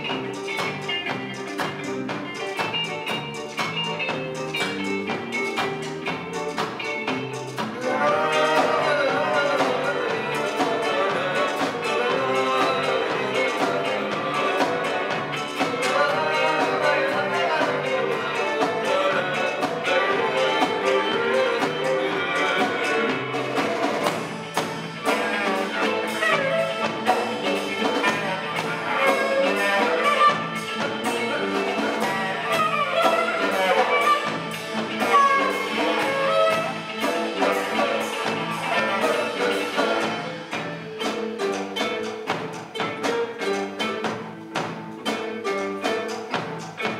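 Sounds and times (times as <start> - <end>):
folk ensemble music: 0.0 - 46.9.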